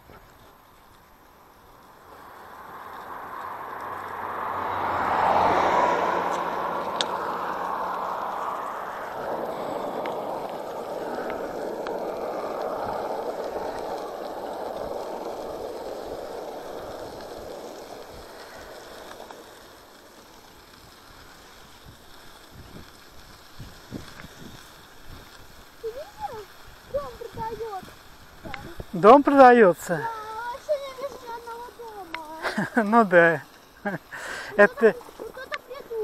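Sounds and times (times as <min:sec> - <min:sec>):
bicycle tyres on gravel: 0:00.0 - 0:36.0.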